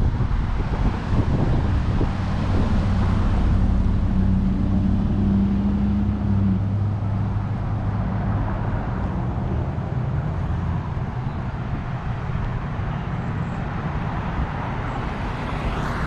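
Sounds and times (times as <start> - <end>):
passing car engine and tyres: 0.0 - 16.0
road noise: 0.0 - 16.0.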